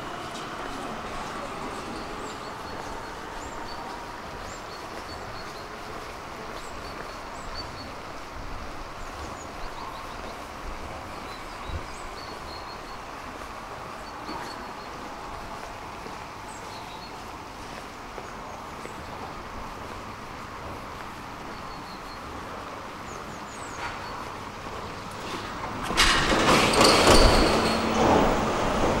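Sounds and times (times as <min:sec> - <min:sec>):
small birds chirping: 0:01.0 - 0:25.2.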